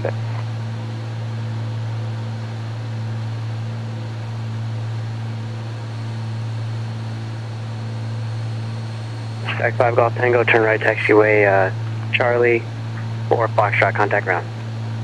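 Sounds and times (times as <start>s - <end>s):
aircraft engines and propellers humming: 0.0s - 15.0s.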